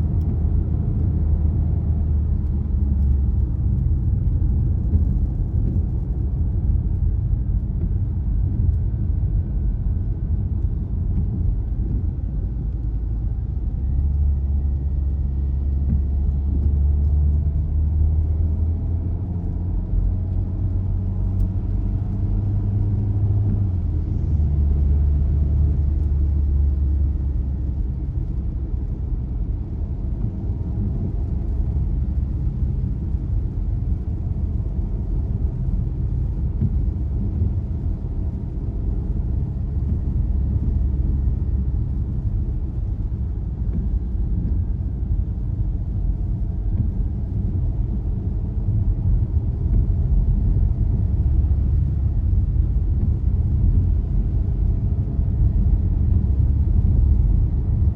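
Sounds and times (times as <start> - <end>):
car engine rumble: 0.0 - 57.9.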